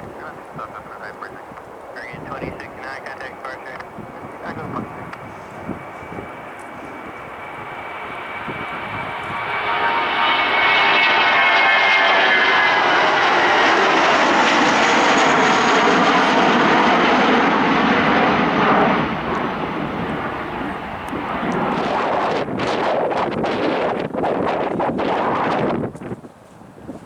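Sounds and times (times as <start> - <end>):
airliner engines passing: 0.0 - 27.0.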